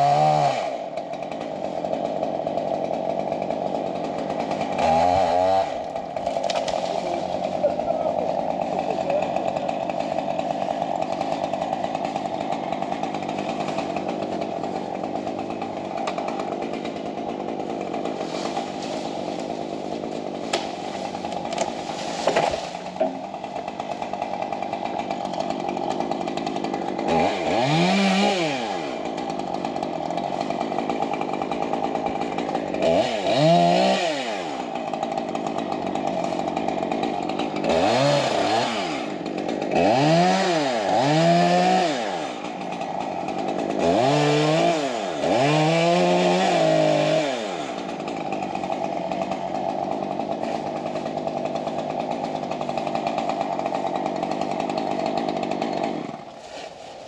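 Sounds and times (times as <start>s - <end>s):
chainsaw running and revving: 0.0s - 57.0s.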